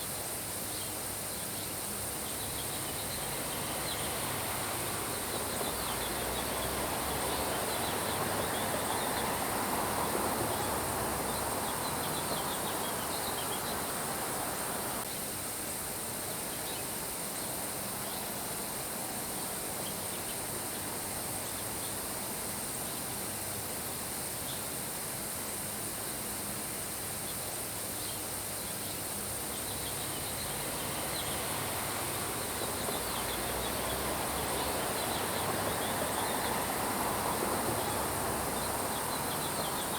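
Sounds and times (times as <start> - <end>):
crickets chirping: 0.0 - 39.9
rain-like hiss: 0.0 - 39.9.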